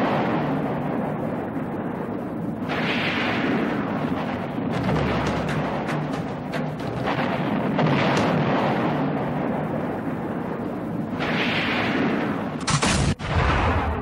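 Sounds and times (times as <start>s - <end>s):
dense rumbling and booming: 0.0s - 14.0s.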